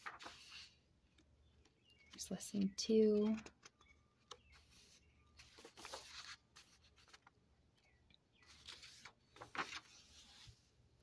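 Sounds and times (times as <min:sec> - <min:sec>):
paper pages turning: 0:00.0 - 0:02.2, 0:03.0 - 0:10.7.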